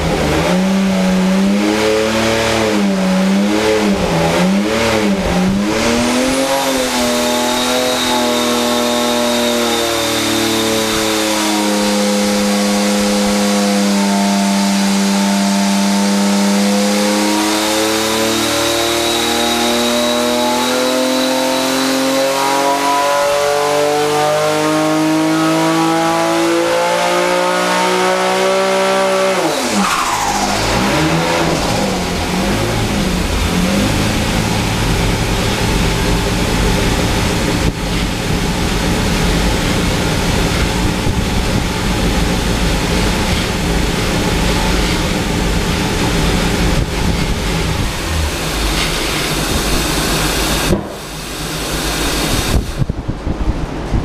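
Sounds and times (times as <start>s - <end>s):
engine running on dynamometer: 0.0s - 54.0s.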